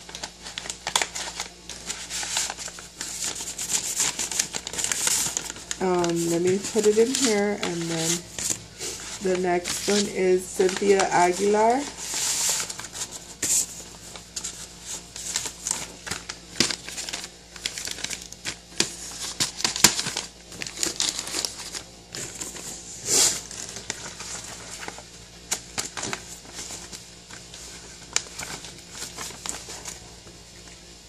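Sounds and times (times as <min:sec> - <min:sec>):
packaging crinkling and tearing: 0:00.0 - 0:30.8.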